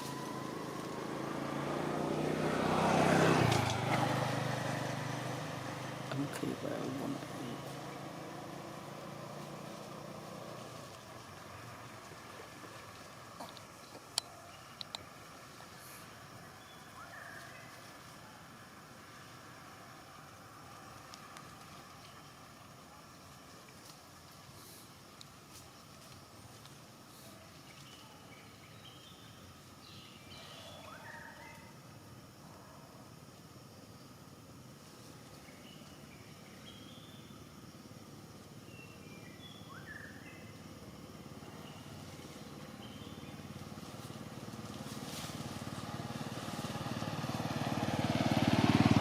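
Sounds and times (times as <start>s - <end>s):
engine hum: 0.0s - 32.4s, 33.3s - 49.0s
outdoor background hiss: 0.0s - 49.0s.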